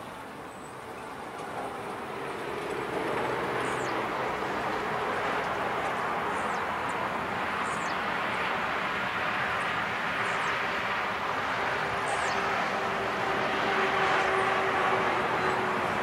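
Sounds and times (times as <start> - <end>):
jet engine roar: 1.2 - 16.0.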